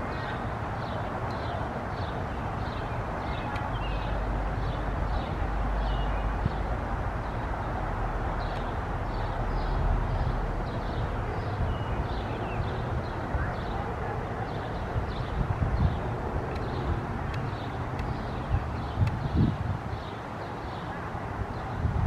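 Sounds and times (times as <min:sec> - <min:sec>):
bird chirping: 0:00.1 - 0:07.8, 0:08.4 - 0:21.8.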